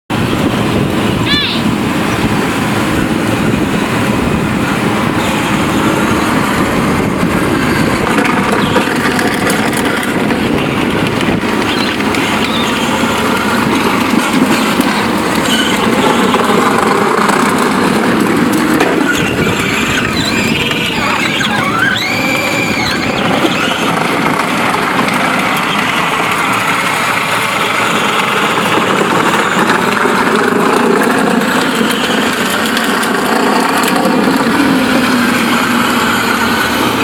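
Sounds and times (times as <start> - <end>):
atv engine running: 0.1 - 37.0.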